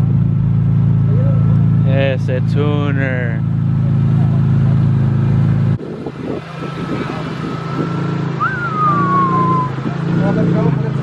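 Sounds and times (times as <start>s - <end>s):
car engine at low revs: 0.0s - 11.0s.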